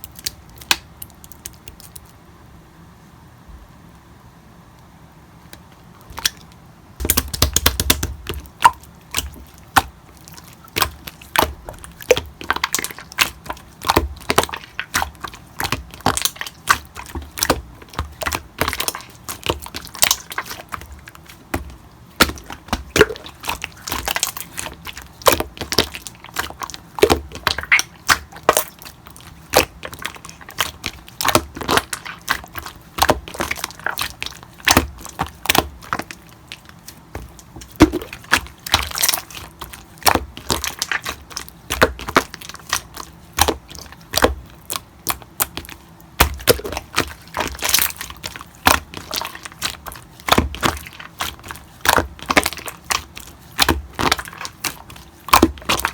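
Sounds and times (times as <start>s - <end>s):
slime squished by hand: 0.0s - 2.2s, 5.5s - 55.9s.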